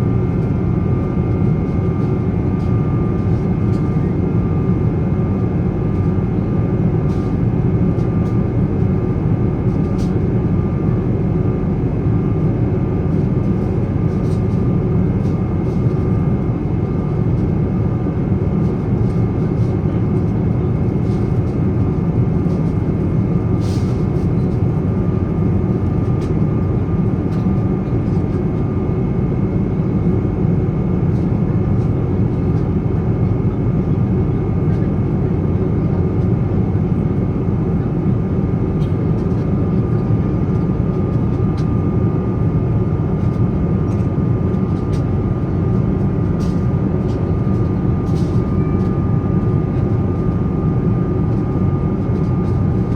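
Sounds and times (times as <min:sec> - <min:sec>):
jet engine cabin rumble: 0:00.0 - 0:52.9.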